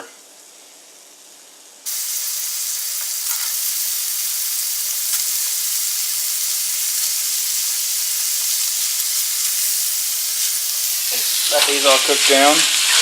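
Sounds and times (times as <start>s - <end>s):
bacon sizzling in a skillet: 0.3s - 13.0s.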